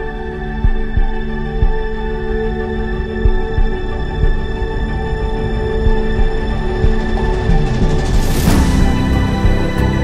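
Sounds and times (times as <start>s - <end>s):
music of long held tones: 0.0s - 10.0s.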